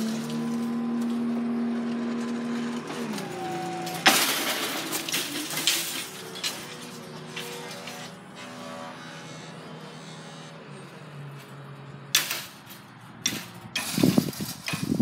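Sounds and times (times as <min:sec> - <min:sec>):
train engine drone: 0:00.0 - 0:14.1.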